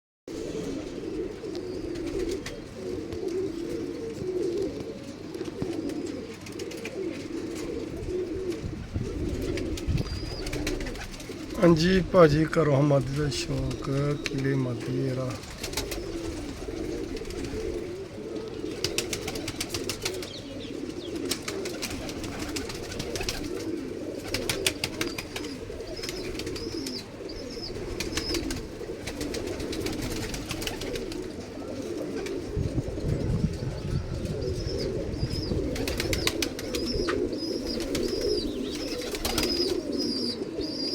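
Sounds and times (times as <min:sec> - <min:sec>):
pigeons cooing: 0:00.3 - 0:40.9.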